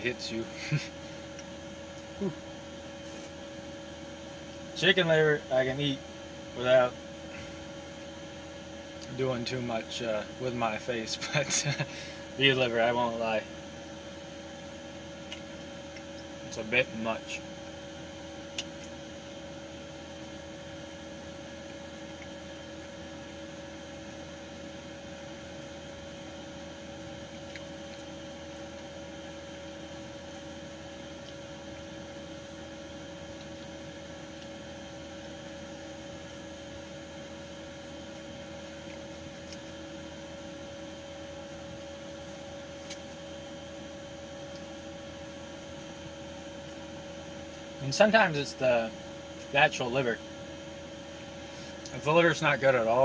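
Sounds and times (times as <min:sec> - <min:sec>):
electrical hum: 0:00.0 - 0:53.0
faint whine and hiss: 0:00.0 - 0:53.0.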